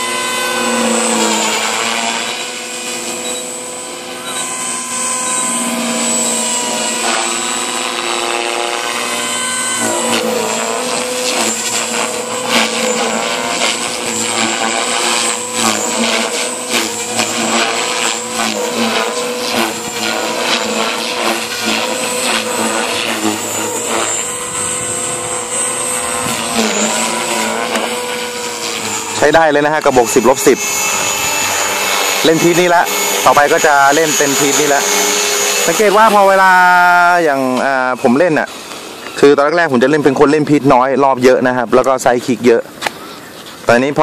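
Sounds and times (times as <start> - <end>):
model helicopter motor and rotor whine: 0.0 - 44.0.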